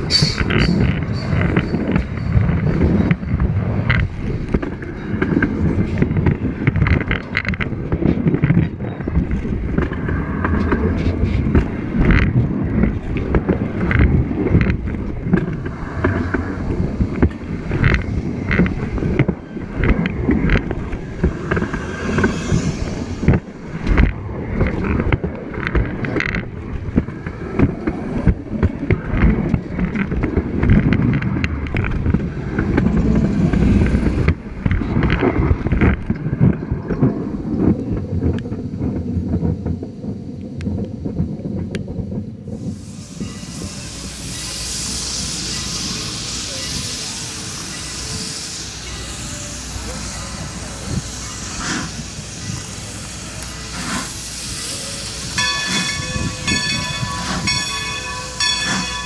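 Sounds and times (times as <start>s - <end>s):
train wheels rumbling on rails: 0.0s - 59.0s
wheels clicking on rails: 0.0s - 59.0s.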